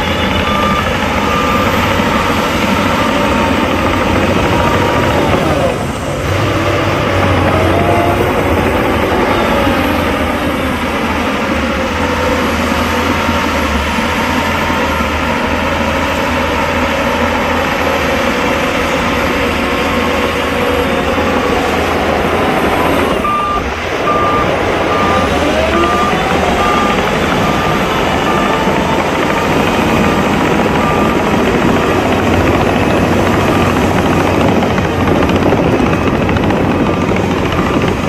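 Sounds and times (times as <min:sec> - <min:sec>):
diesel earthmoving machinery running: 0:00.0 - 0:38.0
reversing alarm beeping: 0:00.0 - 0:38.0.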